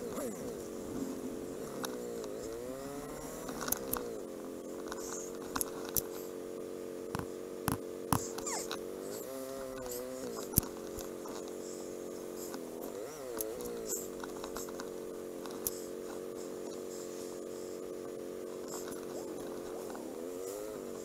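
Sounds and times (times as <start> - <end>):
motorcycle engine running: 0.0 - 21.0
faint ticks: 1.7 - 6.4, 7.1 - 21.0.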